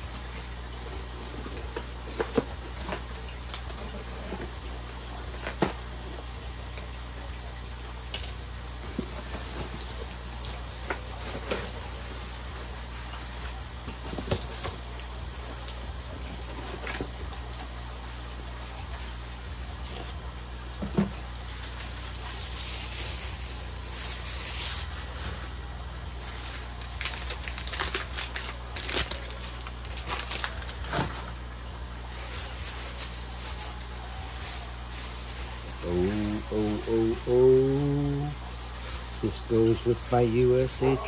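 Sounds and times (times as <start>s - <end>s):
packaging crinkling and rustling: 0.0s - 6.2s, 8.8s - 17.7s, 21.2s - 41.0s
steady low hum: 0.0s - 41.0s.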